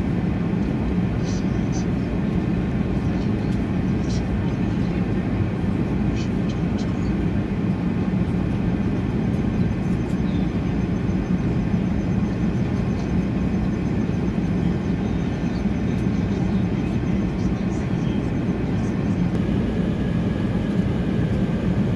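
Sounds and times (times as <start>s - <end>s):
airliner cabin noise: 0.0s - 21.9s.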